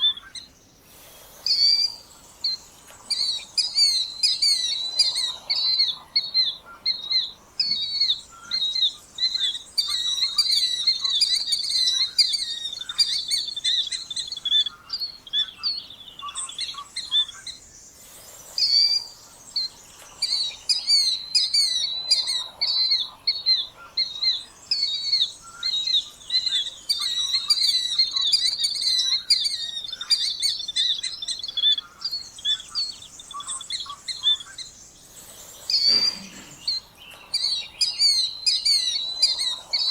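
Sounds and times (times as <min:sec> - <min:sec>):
killdeer calling: 0:00.0 - 0:00.6, 0:01.4 - 0:17.7, 0:18.5 - 0:39.9.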